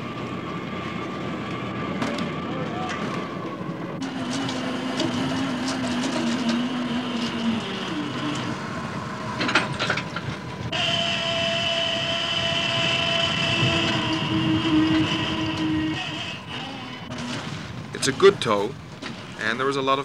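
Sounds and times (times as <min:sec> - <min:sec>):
high steady whine: 0:00.0 - 0:19.8
winch and engine droning: 0:00.0 - 0:20.0.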